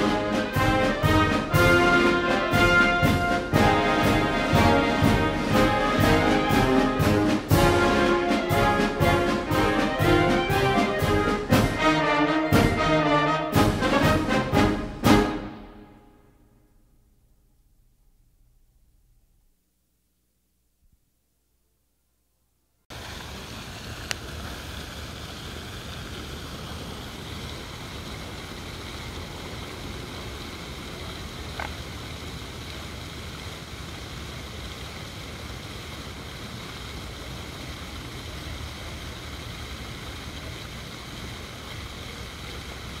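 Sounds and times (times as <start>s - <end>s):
fountain water rushing: 0.0s - 16.3s, 22.9s - 43.0s.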